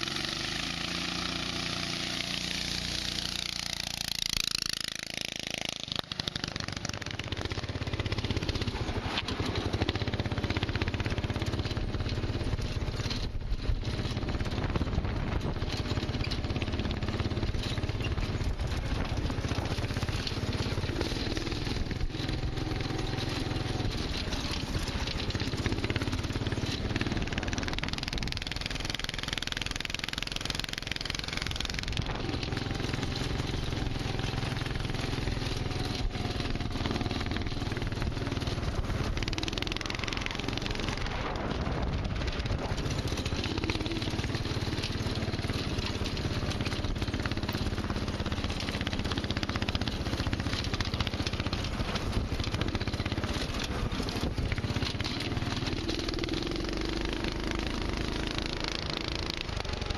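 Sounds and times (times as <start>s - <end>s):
go-kart engine running under load: 0.0s - 59.9s.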